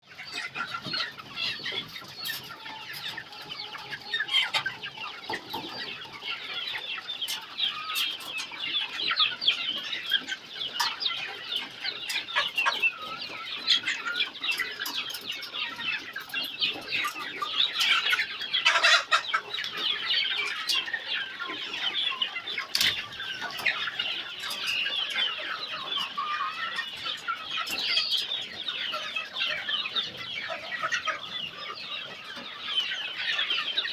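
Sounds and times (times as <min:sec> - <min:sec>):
chickens calling and clucking: 0:00.0 - 0:33.9.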